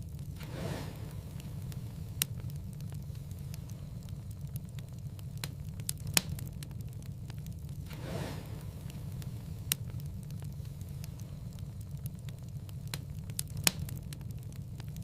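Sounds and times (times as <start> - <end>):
fire crackling: 0.0 - 15.0
sharp fire pops: 0.0 - 15.0.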